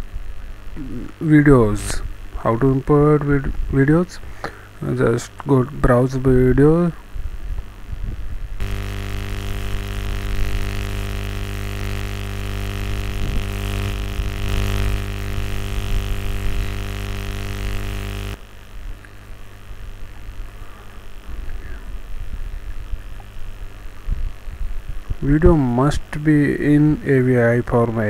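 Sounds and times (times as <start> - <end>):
faint low hum: 0.0 - 28.0
loud electrical buzzing hum: 0.0 - 28.0.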